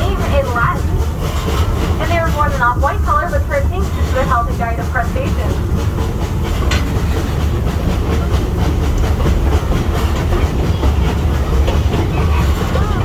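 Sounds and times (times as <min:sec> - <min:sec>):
train wheels rumbling on rail: 0:00.0 - 0:13.0
wheel clacks on track: 0:00.0 - 0:13.0.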